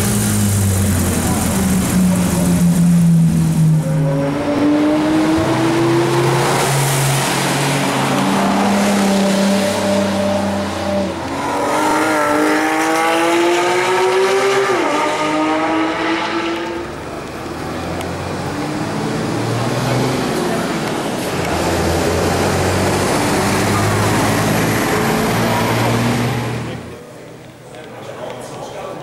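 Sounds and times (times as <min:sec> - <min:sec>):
sports car engine accelerating: 0:00.0 - 0:26.9.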